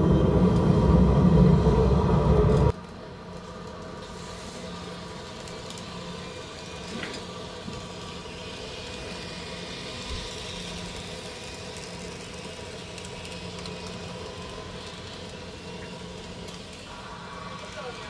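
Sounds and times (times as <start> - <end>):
train locomotive engine idling: 0.0 - 18.0.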